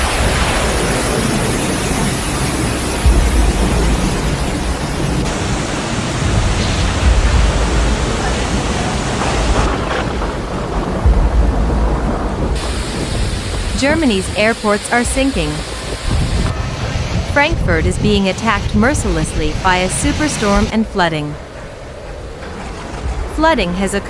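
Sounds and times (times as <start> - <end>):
wind: 0.0 - 18.4, 19.0 - 24.0
heavy rain: 0.0 - 24.0
low thunder rumbles: 0.0 - 24.0.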